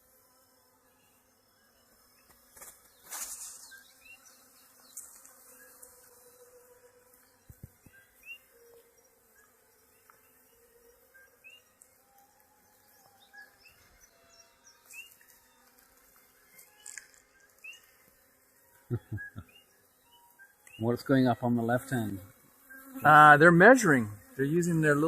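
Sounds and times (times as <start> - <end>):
bees humming: 0.0 - 25.0.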